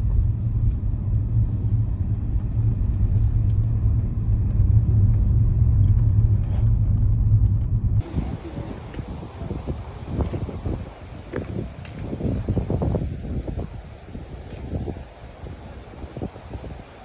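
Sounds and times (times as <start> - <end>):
loud low rumble: 0.0 - 17.0.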